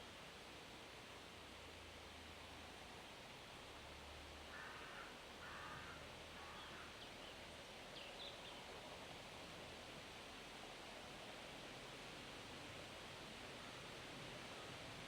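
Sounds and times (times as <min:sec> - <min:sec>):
wind through leaves: 0:00.0 - 0:15.0.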